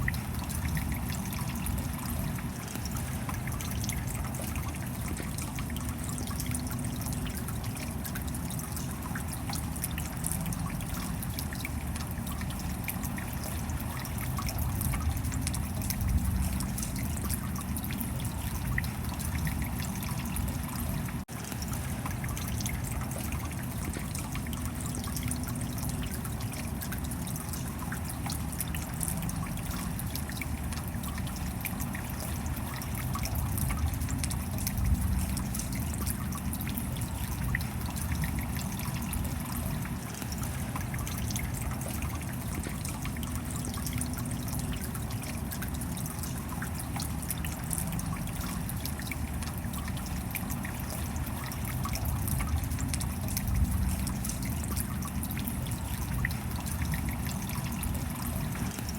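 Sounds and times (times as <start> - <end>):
steady rain: 0.0 - 58.9
water trickling: 0.0 - 58.9.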